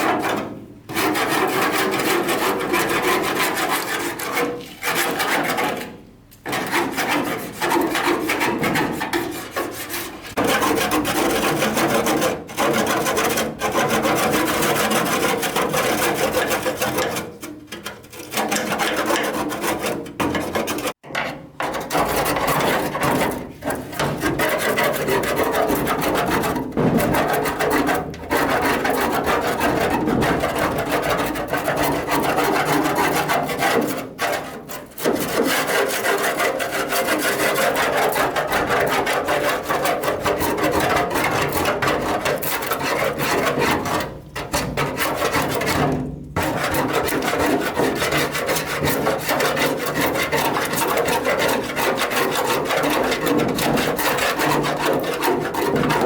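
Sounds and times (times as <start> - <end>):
rasping and scraping: 0.0 - 56.0.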